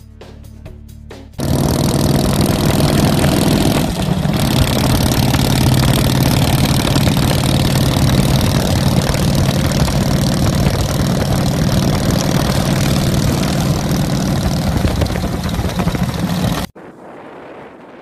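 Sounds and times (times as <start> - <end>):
motorcycle engine cruising: 1.4 - 16.8
wind and road noise: 1.4 - 18.0.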